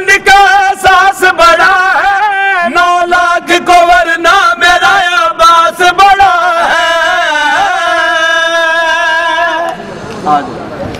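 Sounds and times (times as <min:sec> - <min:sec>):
man chanting a melody: 0:00.0 - 0:09.8.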